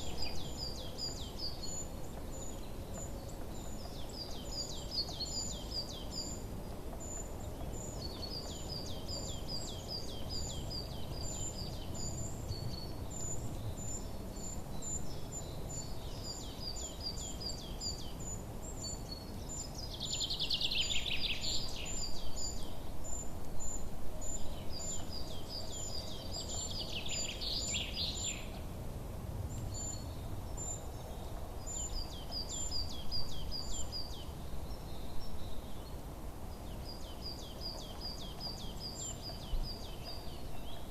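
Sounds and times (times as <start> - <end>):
low ambient rush: 0.0 - 40.9
songbirds chirping: 0.0 - 40.9.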